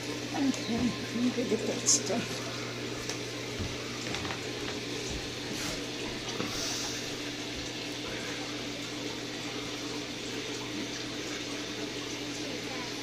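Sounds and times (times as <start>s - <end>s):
low pump hum: 0.0s - 13.0s.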